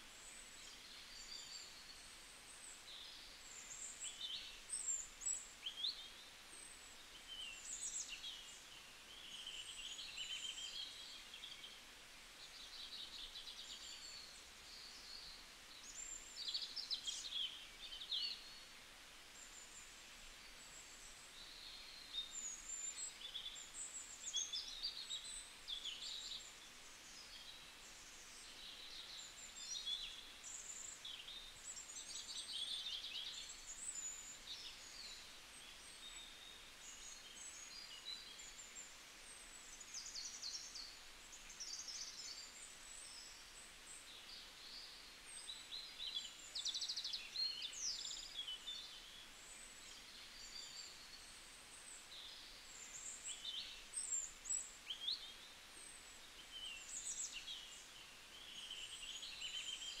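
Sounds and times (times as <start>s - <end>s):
faint birdsong: 0.0s - 60.0s
soft background hiss: 0.0s - 60.0s.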